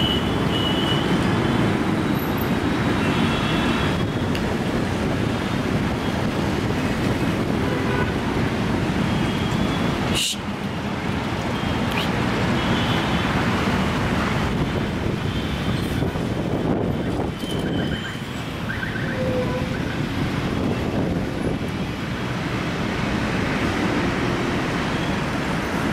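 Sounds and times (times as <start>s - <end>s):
roadside traffic: 0.0s - 25.9s.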